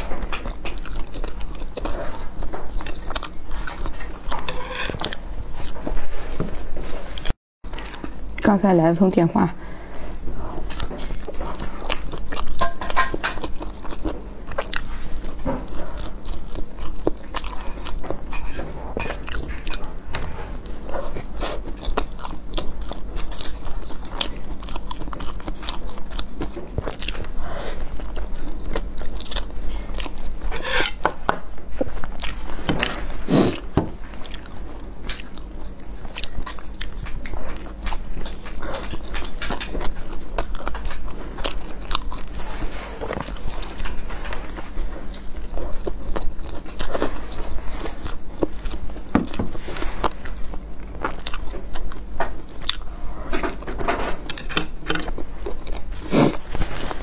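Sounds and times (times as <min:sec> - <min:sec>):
person chewing soft bun: 0:00.0 - 0:08.5, 0:09.7 - 0:57.0.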